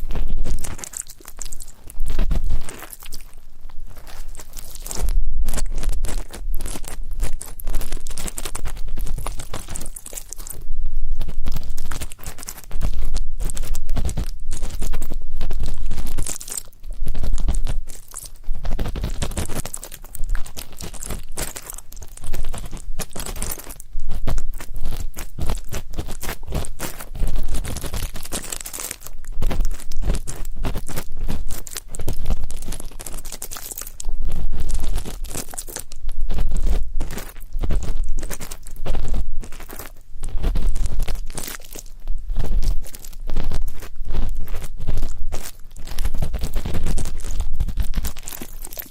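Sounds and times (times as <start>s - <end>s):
earpick scraping microphone: 0.0s - 48.9s.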